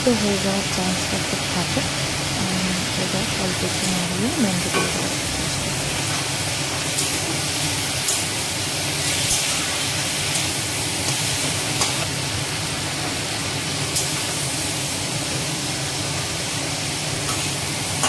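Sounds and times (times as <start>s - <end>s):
food hissing in pans: 1.7s - 18.0s.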